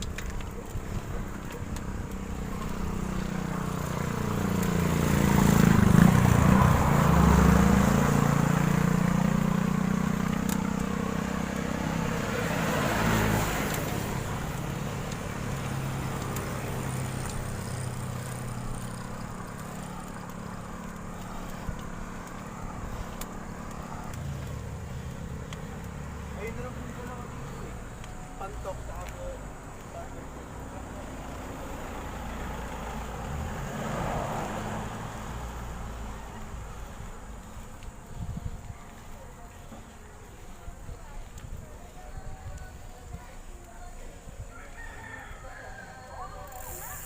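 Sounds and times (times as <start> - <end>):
faint engine hum: 0.0 - 44.6
vehicles passing on road: 0.0 - 47.0.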